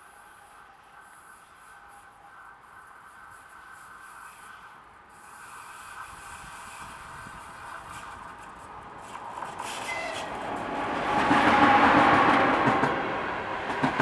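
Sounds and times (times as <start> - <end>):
train rail and wheel noise: 0.0 - 14.0.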